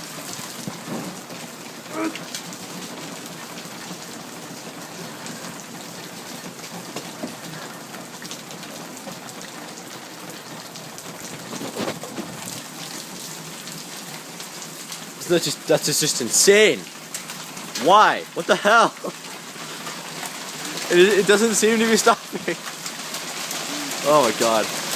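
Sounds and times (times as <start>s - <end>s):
heavy rain and hail pelting: 0.0s - 24.9s.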